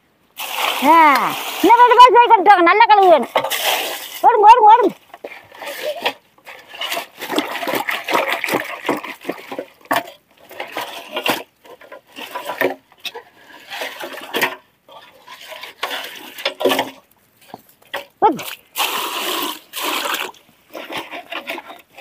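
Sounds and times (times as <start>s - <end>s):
water sloshing and splashing: 0.1s - 22.0s.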